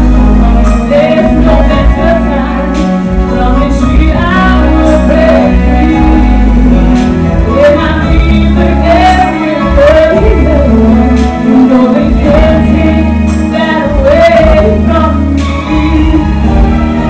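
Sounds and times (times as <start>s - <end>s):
instrumental accompaniment: 0.0s - 17.0s
woman singing: 0.8s - 17.0s.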